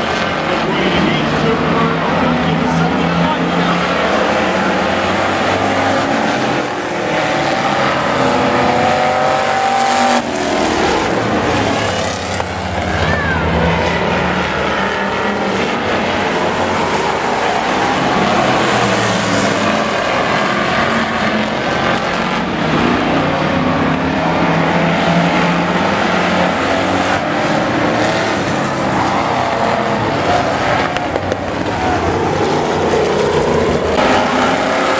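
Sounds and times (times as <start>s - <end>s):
racing truck engines: 0.0s - 34.9s.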